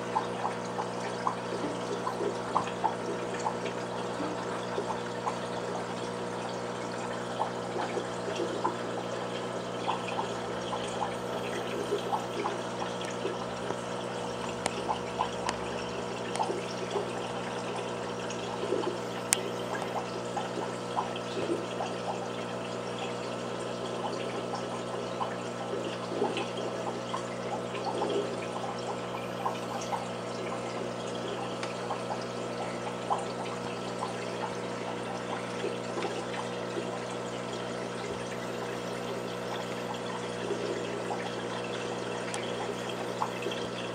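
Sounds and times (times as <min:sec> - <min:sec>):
aquarium water trickling and bubbling: 0:00.0 - 0:43.9.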